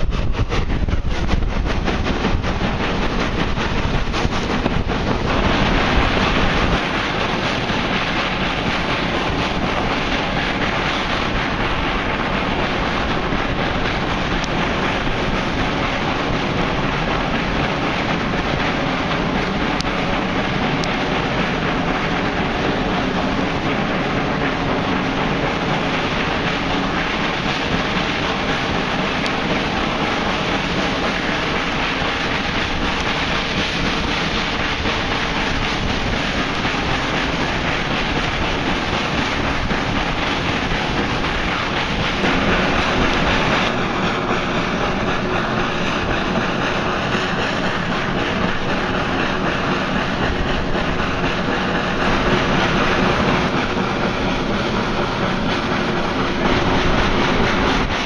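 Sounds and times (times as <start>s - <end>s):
railway carriage rumble: 0.0s - 58.0s
wind rushing over microphone: 0.0s - 58.0s.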